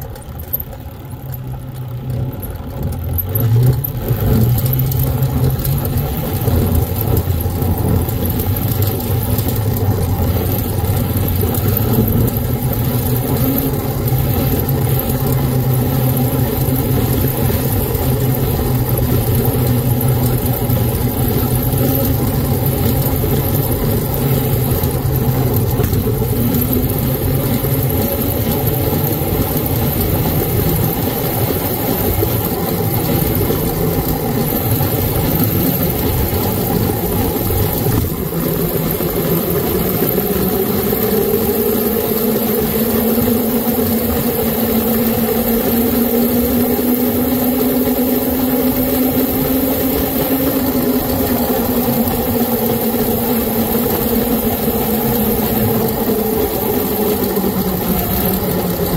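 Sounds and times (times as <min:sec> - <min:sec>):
rough rumble over broken road: 0:00.0 - 0:58.9
electric motor whine: 0:03.4 - 0:58.9.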